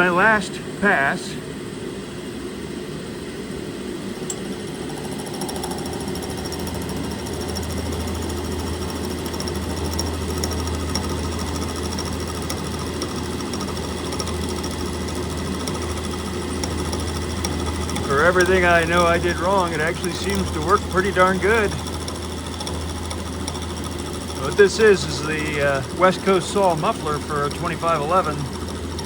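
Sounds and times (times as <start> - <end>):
low hum: 0.0 - 29.0
milling cutter cutting metal: 4.3 - 29.0.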